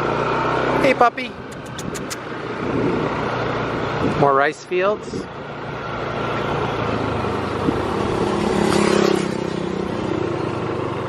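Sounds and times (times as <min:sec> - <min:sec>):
scooter engine hum: 0:00.0 - 0:04.0, 0:05.3 - 0:11.0
wind and road noise: 0:00.0 - 0:11.0.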